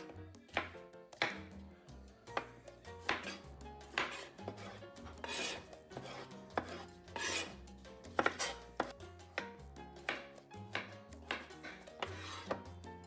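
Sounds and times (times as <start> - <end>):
knife scraping cutting board: 0.0 - 1.5, 2.4 - 9.4, 10.0 - 12.7
knife chopping on cutting board: 0.0 - 1.6, 2.3 - 12.8.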